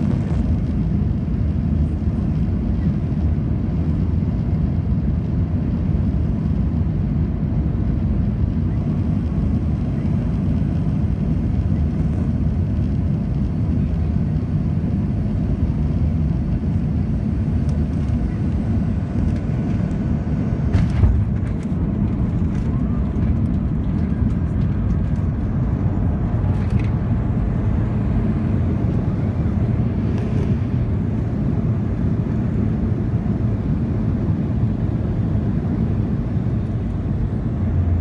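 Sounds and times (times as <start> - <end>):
aircraft cabin engine rumble: 0.0 - 38.0.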